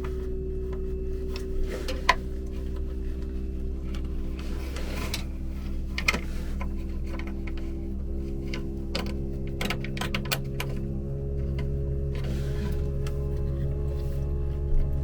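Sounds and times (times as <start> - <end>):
steady mechanical hum: 0.0 - 15.0
wiring parts clicking and tapping: 0.0 - 15.0.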